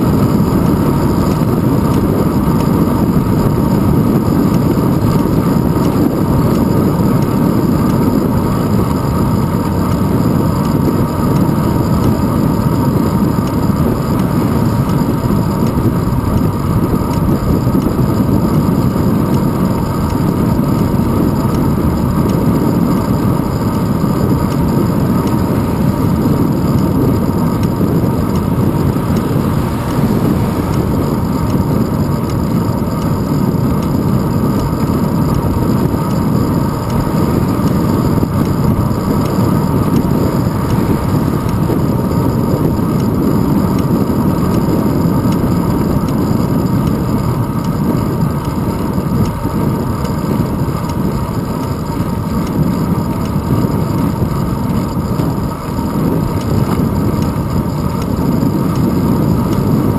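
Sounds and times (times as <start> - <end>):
road rumble: 0.0 - 59.9
wind buffeting microphone: 0.0 - 59.9.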